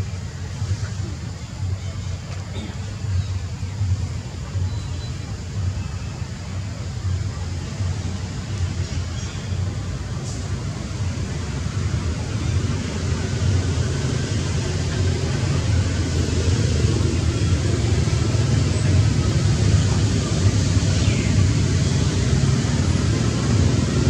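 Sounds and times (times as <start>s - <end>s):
low rumbling noise: 0.0s - 24.0s.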